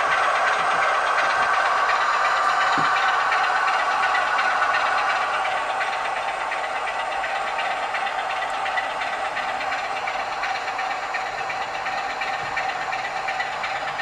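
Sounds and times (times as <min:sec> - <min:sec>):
model diesel engine idling: 0:00.0 - 0:14.0.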